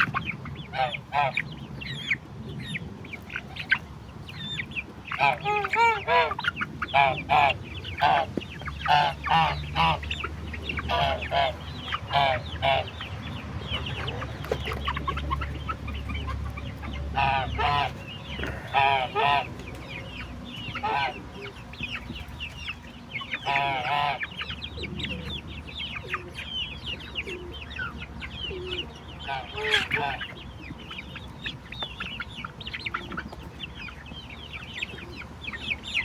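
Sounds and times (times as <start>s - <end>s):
chickens calling: 0.0s - 36.0s.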